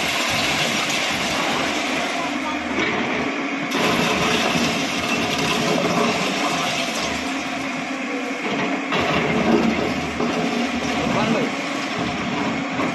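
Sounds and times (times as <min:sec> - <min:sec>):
bulldozer engine din: 0:00.0 - 0:12.9.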